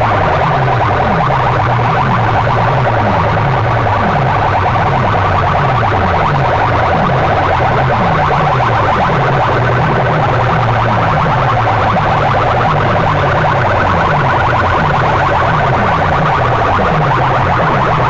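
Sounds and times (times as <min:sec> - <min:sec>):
electronic siren-like track: 0:00.0 - 0:18.0
fast pulsing tone: 0:00.0 - 0:18.0.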